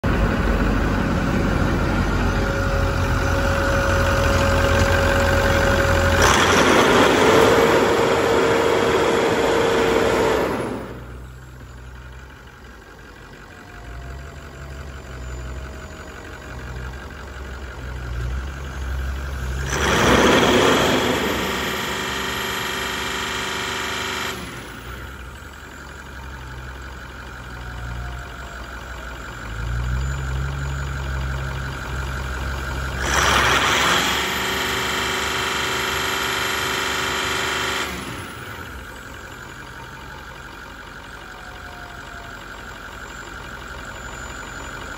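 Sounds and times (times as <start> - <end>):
diesel engine idling: 0.0 - 44.9
steady engine whine: 0.0 - 44.9.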